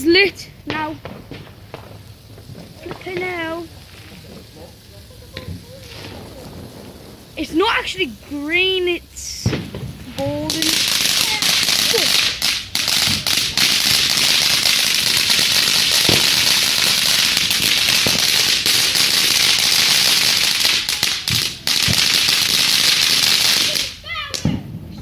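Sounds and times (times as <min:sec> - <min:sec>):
firework fountain hissing: 0:00.0 - 0:25.0.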